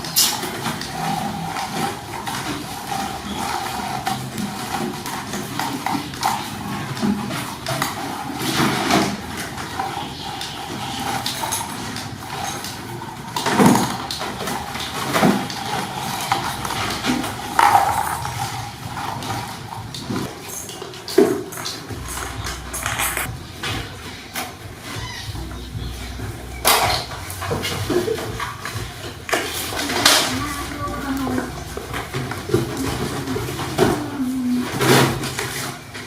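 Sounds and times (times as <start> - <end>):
steady background noise: 0.0 - 36.0.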